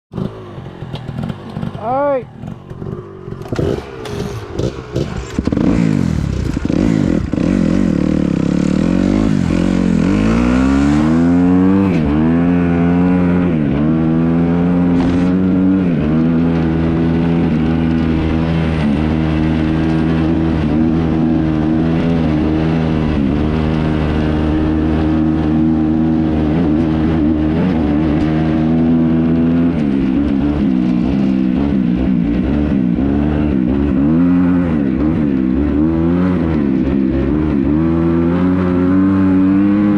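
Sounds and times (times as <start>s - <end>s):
dirt bike engine revving: 0.1s - 39.9s.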